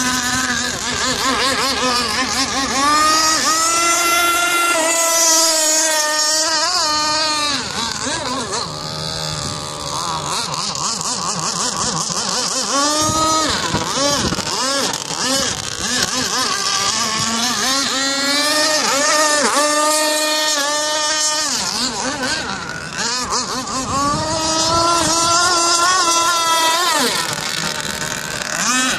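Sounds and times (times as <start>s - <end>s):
motorboat engine running: 0.0s - 28.9s.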